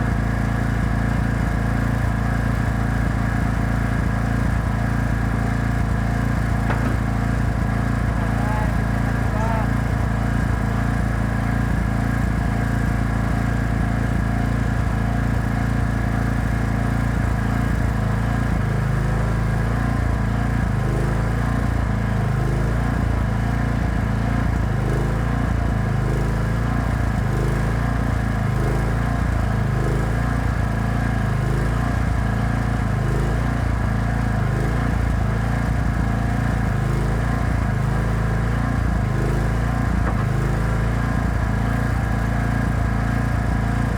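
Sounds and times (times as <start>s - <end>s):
small generator engine running: 0.0s - 43.9s.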